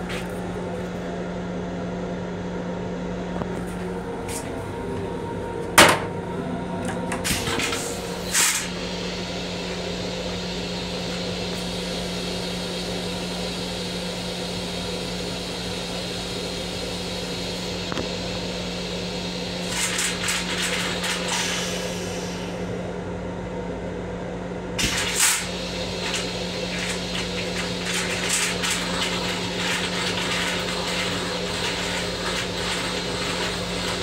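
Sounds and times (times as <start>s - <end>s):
railcar low hum: 0.0s - 34.0s.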